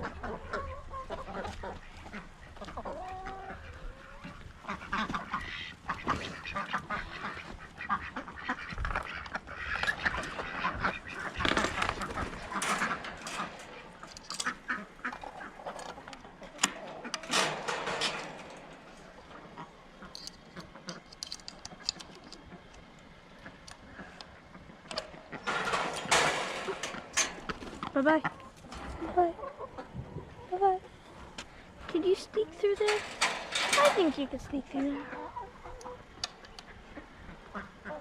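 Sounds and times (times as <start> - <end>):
ducks quacking: 0.0 - 38.0.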